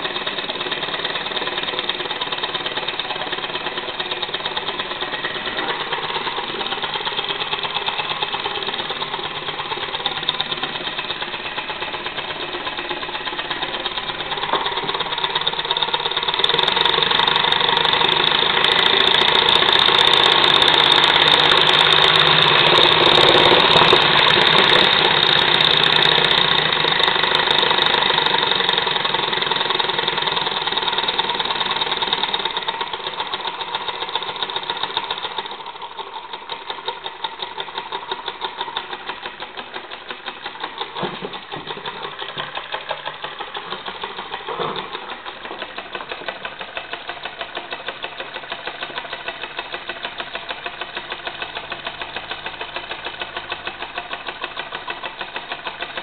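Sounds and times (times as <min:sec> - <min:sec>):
model engine chuffing: 0:00.0 - 0:56.0.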